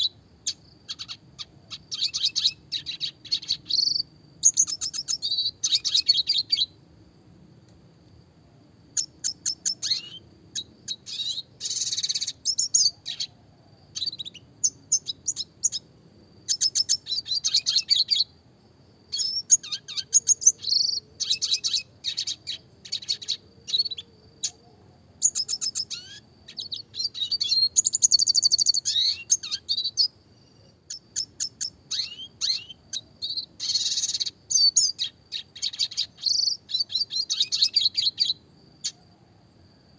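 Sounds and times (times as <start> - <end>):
bird singing twittering trills: 0.0 - 6.8, 8.9 - 18.4, 19.0 - 39.1.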